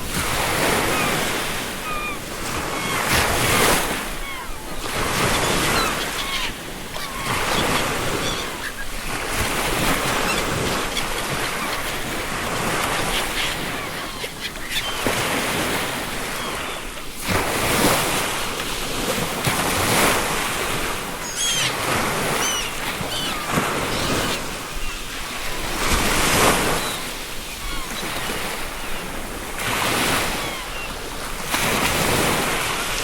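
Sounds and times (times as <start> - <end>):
ocean surf breaking on shore: 0.0 - 33.0
seagulls calling: 0.4 - 18.5, 19.4 - 32.6.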